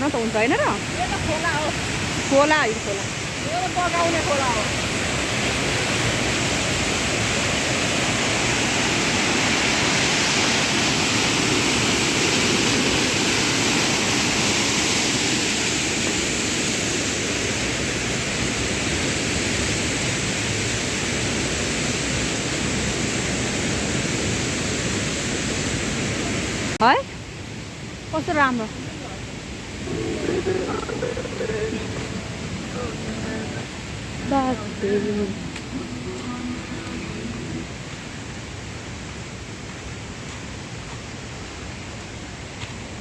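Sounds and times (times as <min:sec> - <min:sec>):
mountain stream rushing: 0:00.0 - 0:43.0.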